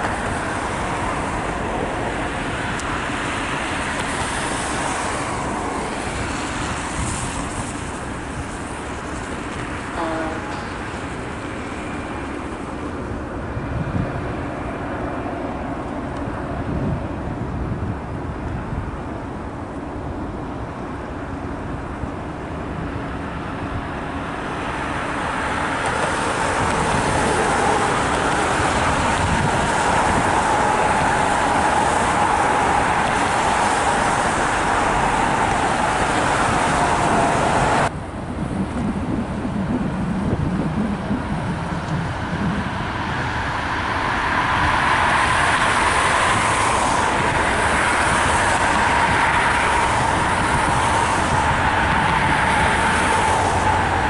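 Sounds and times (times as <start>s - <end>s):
low traffic rumble: 0.0s - 54.0s
road traffic rush with whine: 0.0s - 54.0s.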